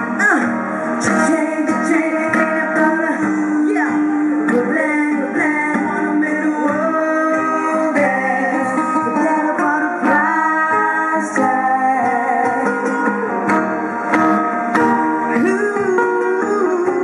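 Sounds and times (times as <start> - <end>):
acoustic band playing: 0.0 - 17.0
guitar: 0.0 - 17.0
person singing: 0.0 - 17.0.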